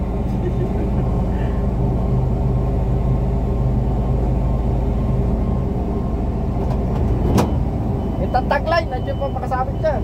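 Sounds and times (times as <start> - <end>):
crane engine droning: 0.0 - 10.0.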